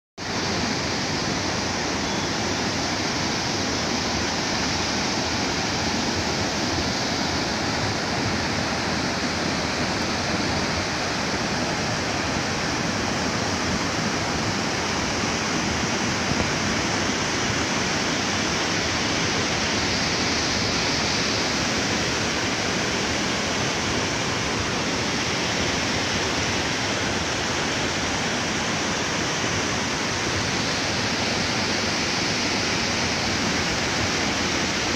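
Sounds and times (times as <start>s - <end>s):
muddy river rushing over rocks: 0.2s - 34.9s.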